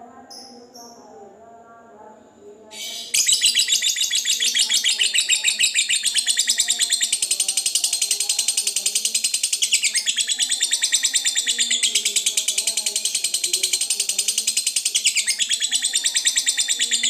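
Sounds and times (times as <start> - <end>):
lovebird shrill chattering: 2.8 - 17.0.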